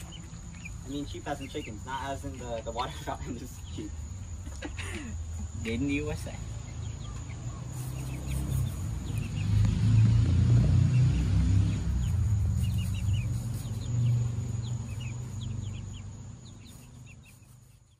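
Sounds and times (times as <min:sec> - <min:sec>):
chicks peeping: 0:00.0 - 0:17.9.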